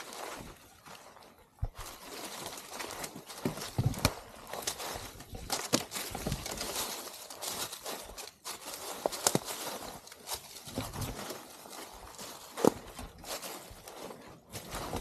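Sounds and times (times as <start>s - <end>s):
footsteps crunching through dry leaves: 0.0s - 15.0s.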